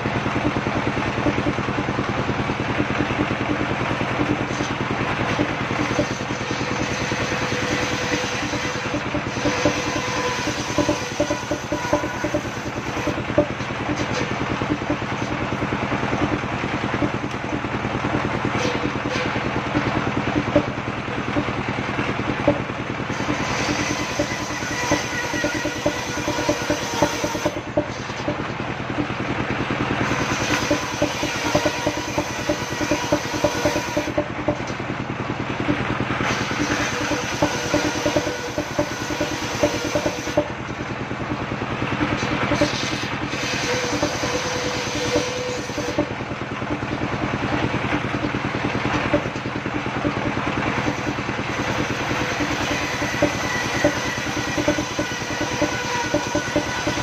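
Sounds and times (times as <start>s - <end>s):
circular sawmill running: 0.0s - 57.0s.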